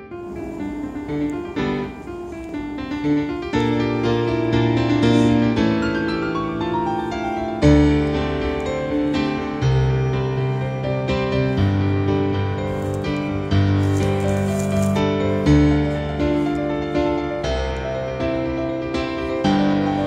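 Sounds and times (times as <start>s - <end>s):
keyboard melody over chords: 0.0s - 20.0s.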